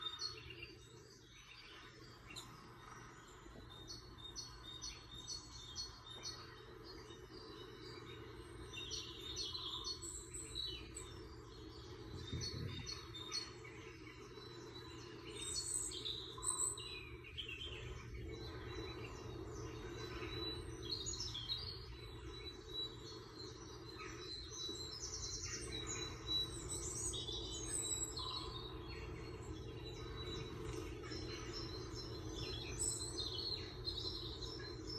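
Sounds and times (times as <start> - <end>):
low background noise: 0.0 - 34.9
small birds chirping: 0.0 - 34.9.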